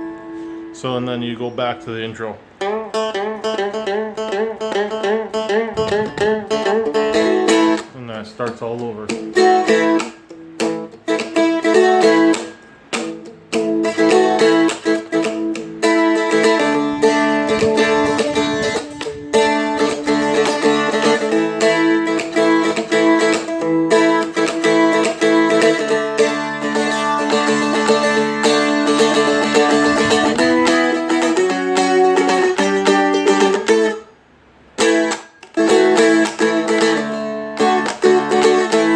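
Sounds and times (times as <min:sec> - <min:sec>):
small stringed instrument strummed: 0:00.0 - 0:38.9.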